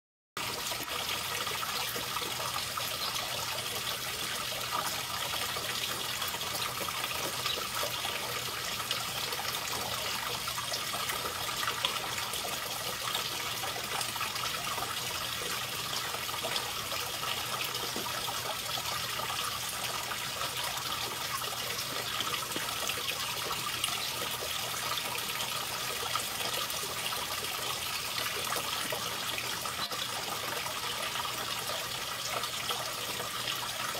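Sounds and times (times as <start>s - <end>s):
water trickling: 0.4s - 33.9s.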